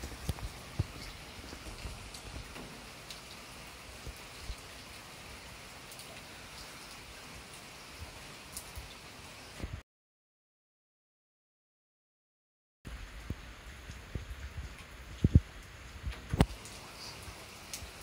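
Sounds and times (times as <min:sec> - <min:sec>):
raindrop hits: 0:00.0 - 0:09.8, 0:12.9 - 0:18.0
steady rain falling: 0:00.0 - 0:09.8, 0:12.9 - 0:18.0.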